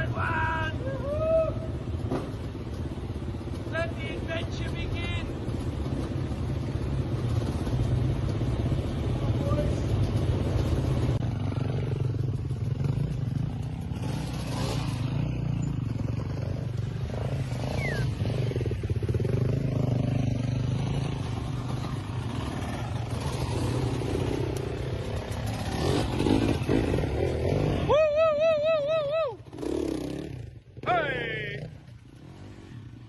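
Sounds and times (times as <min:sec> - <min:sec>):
dirt bike engines running: 0:00.0 - 0:33.0.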